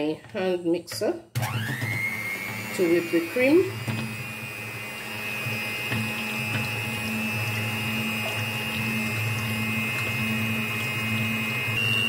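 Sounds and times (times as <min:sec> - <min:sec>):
hand mixer whipping cream: 0:01.4 - 0:12.0.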